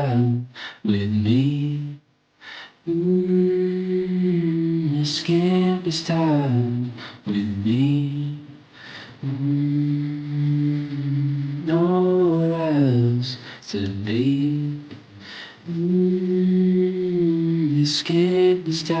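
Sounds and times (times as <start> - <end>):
person singing long wordless notes: 0.0 - 2.0, 2.8 - 19.0.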